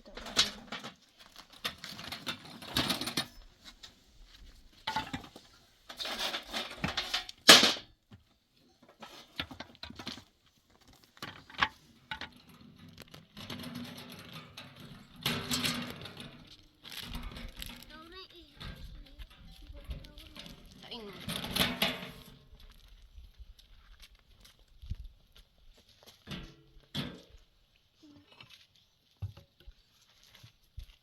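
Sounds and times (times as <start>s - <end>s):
rustling and clatter of handling: 0.0s - 31.0s.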